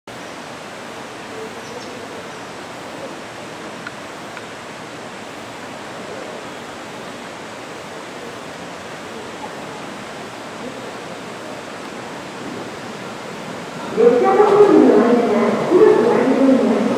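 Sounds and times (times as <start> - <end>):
train rushing through tunnel: 0.6 - 16.9.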